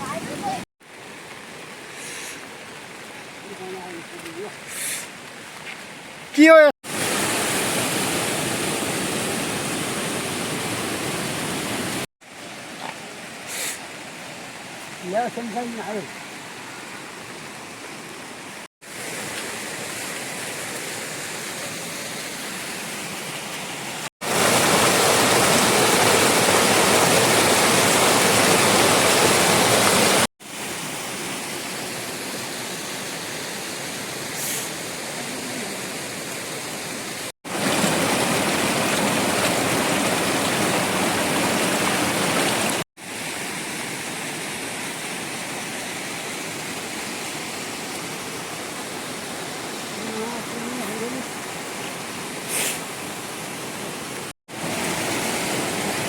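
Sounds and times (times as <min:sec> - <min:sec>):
heavy rain: 0:00.0 - 0:32.6, 0:33.2 - 0:56.0
running water: 0:00.0 - 0:56.0.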